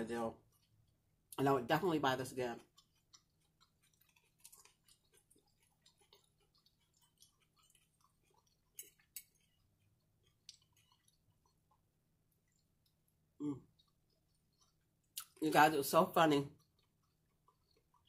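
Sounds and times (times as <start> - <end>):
chewing and mouth clicks: 0.3 - 1.4, 2.5 - 15.7, 16.5 - 18.0.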